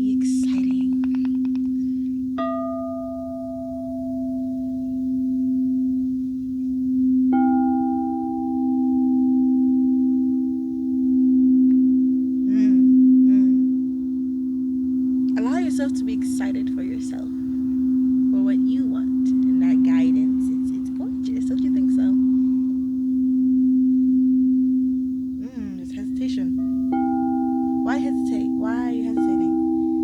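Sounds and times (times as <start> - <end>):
singing bowl steady low tone: 0.0 - 30.0
singing bowls struck ringing: 1.8 - 25.4, 26.1 - 30.0.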